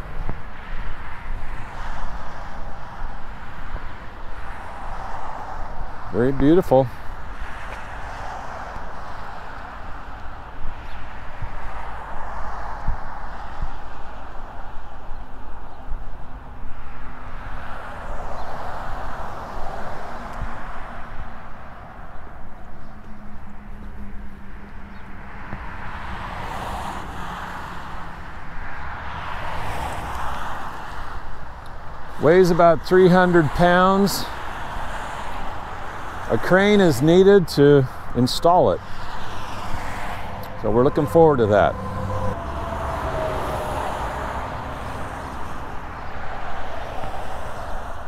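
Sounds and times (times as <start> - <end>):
cars passing: 0.0 - 48.0.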